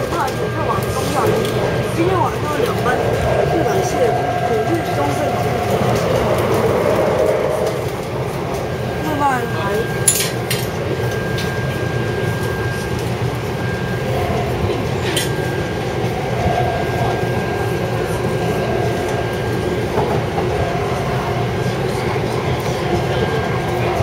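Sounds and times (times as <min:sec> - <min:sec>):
thin steady whine: 0:00.0 - 0:24.0
train wheels rumbling on rail: 0:00.0 - 0:24.0.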